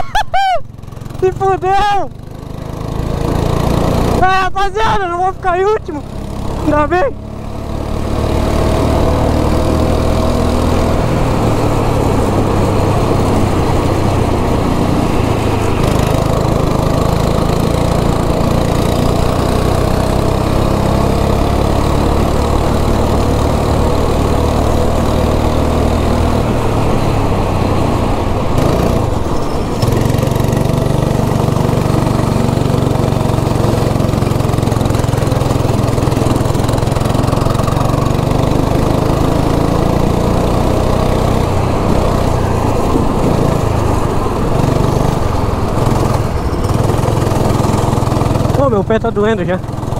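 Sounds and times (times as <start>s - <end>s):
go-kart engine running hard: 0.0s - 49.9s.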